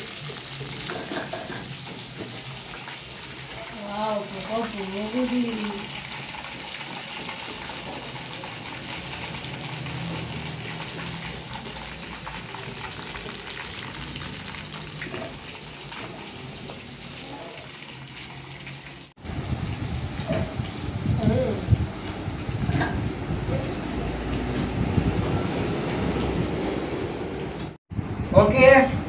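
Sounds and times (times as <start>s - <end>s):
chicken frying in hot oil: 0.0s - 27.7s.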